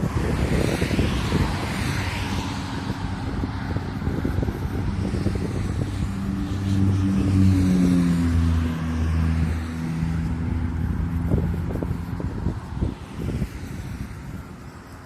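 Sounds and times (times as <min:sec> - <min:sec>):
engine hum passing by: 0:00.0 - 0:14.9
wind buffeting microphone: 0:00.0 - 0:15.0.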